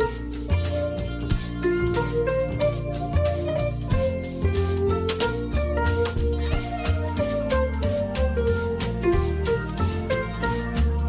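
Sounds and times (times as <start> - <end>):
upbeat plucked guitar-like music: 0.0 - 11.0.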